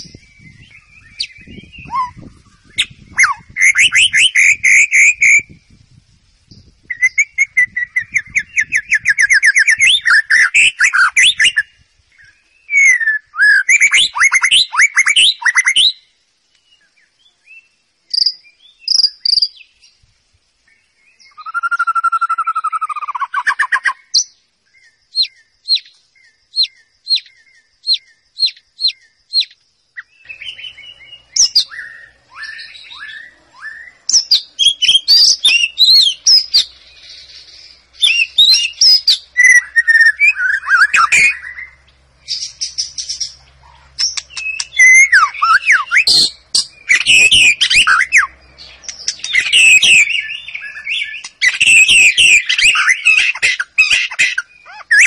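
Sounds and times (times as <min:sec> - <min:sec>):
bird singing whistles and trills: 0:00.0 - 0:20.0, 0:20.6 - 0:55.0
sharp evenly spaced bird notes: 0:00.0 - 0:55.0.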